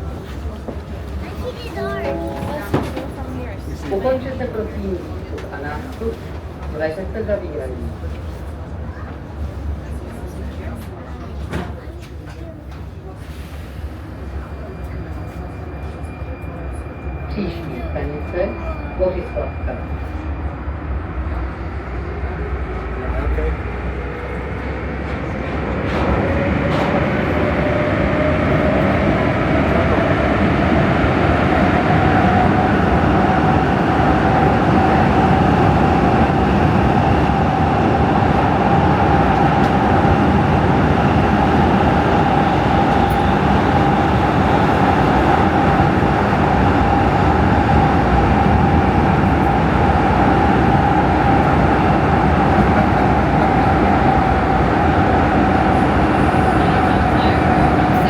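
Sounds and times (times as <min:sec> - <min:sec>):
metro train wheel and tunnel rumble: 0:00.0 - 0:58.0.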